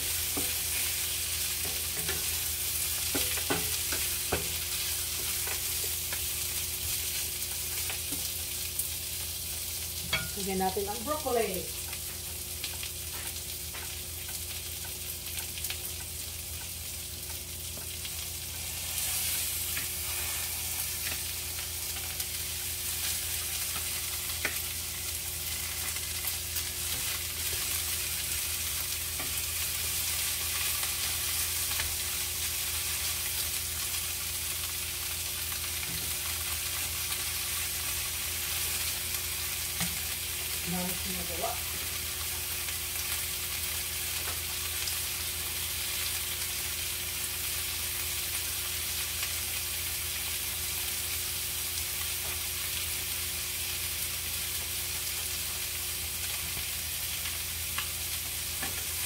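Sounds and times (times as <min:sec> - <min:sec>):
meat and onions sizzling in a pan: 0:00.0 - 0:59.0.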